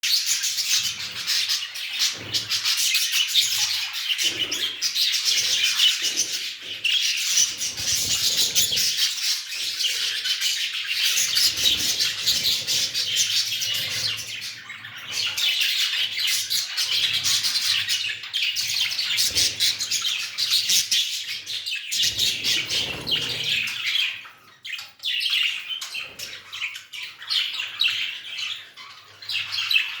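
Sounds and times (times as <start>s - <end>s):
budgerigars chattering and chirping: 0.1s - 30.0s.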